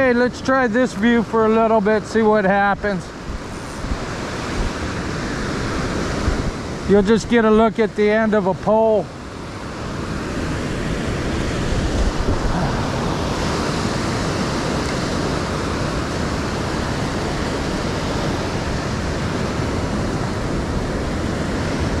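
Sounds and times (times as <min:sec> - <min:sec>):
surf breaking on beach: 0:00.0 - 0:22.0
wind rumbling on microphone: 0:02.2 - 0:07.7, 0:09.2 - 0:22.0.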